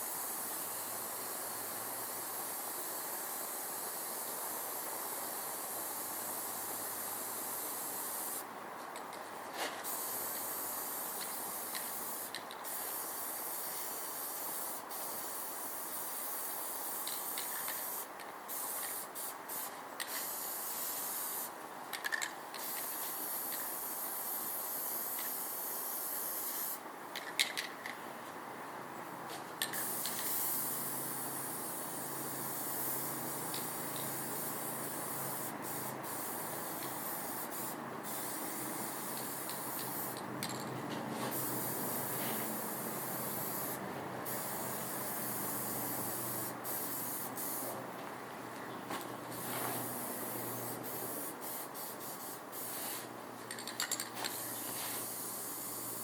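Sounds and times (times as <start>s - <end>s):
spraying hiss: 0.0s - 8.5s, 9.6s - 21.6s, 22.6s - 26.8s, 29.7s - 40.4s, 41.1s - 47.8s, 49.0s - 53.2s, 54.2s - 56.0s.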